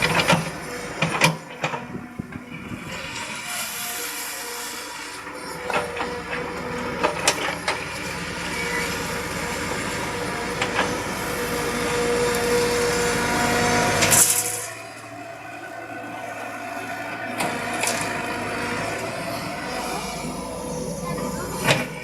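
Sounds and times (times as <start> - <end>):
excavator engine droning: 0.0 - 22.0.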